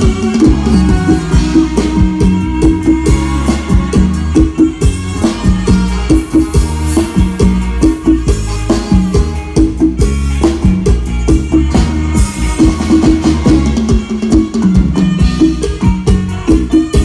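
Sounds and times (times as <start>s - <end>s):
amplified band music: 0.0s - 17.0s
drum kit fast beat: 0.0s - 17.0s
heavy bass: 0.0s - 17.0s.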